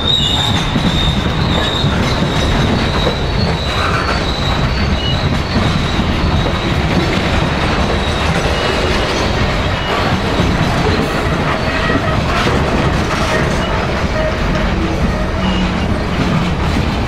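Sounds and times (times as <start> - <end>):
high-pitched wheel squeal: 0.0 - 16.4
train wheels rumbling on rails: 0.0 - 17.0.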